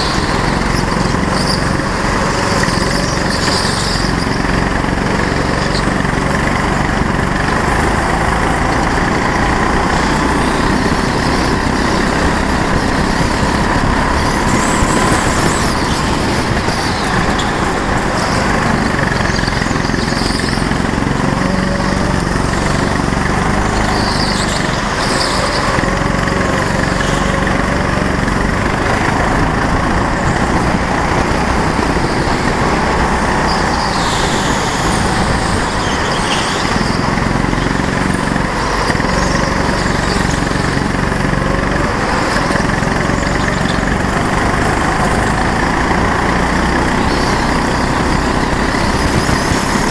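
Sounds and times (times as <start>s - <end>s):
go-kart engine running hard: 0.0s - 49.9s.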